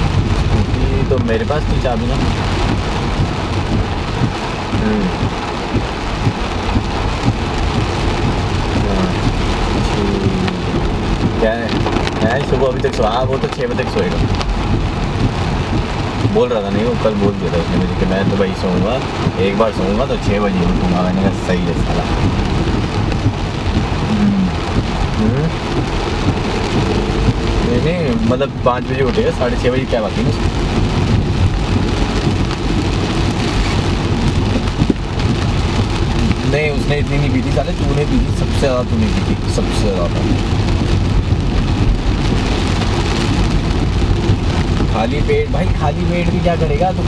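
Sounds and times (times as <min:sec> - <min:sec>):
heavy rain drumming on car roof: 0:00.0 - 0:47.0
low rumble of car and road: 0:00.0 - 0:47.0.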